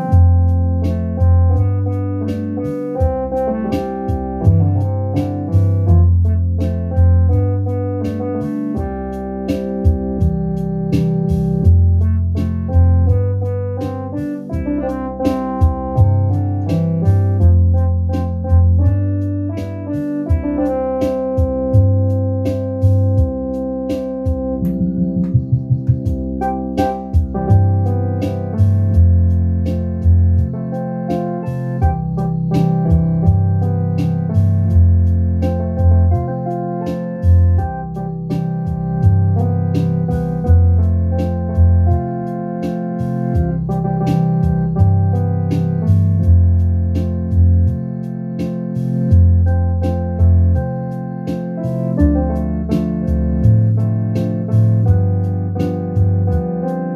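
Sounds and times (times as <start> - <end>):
percussion beat: 0.0 - 46.4, 48.4 - 50.6, 51.2 - 56.5
bass line: 0.0 - 56.9
electronic organ chords: 0.0 - 56.9.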